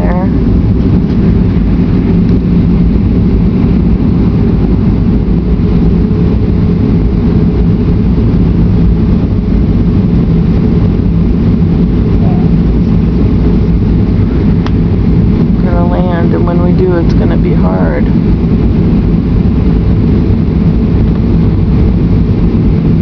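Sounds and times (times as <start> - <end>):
airliner cabin engine drone: 0.0 - 23.0.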